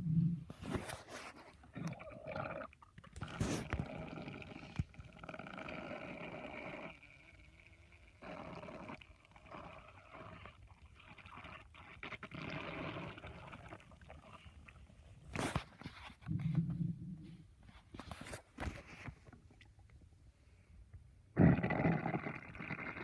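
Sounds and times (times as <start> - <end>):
stomach growling and gurgling: 0.0 - 19.8, 21.3 - 23.0.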